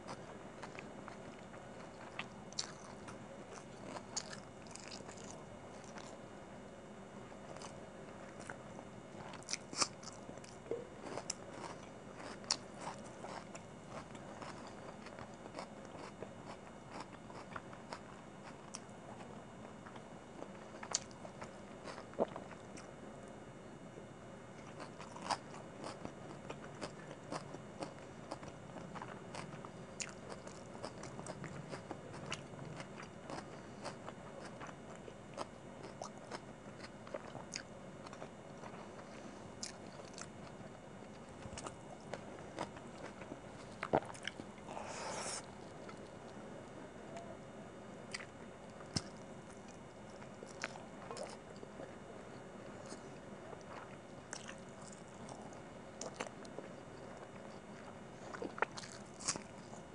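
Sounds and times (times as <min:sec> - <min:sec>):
chewing and crunching: 0:00.0 - 0:06.2, 0:07.4 - 0:23.4, 0:24.6 - 0:47.4, 0:48.0 - 0:59.9.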